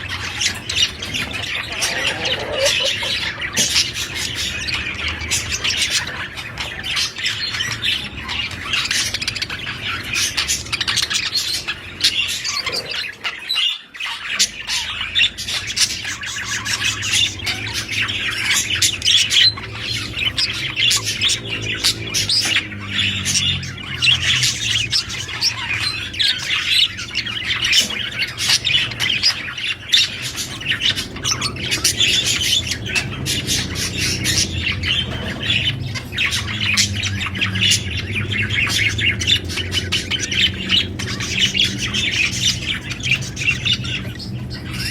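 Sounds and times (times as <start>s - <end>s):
budgerigars chattering and squawking: 0.0s - 44.9s.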